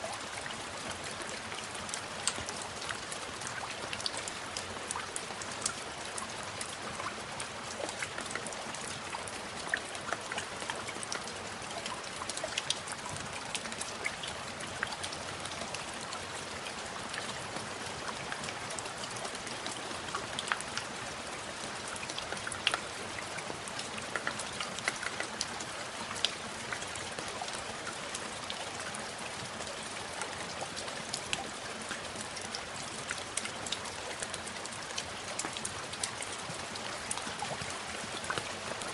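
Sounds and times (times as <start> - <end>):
rain pattering on hard surface: 0.0 - 38.9.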